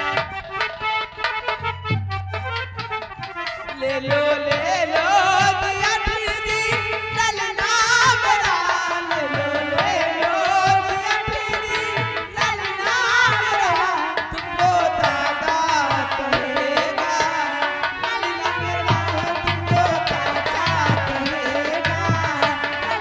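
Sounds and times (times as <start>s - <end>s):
person singing folk song: 3.7s - 23.0s.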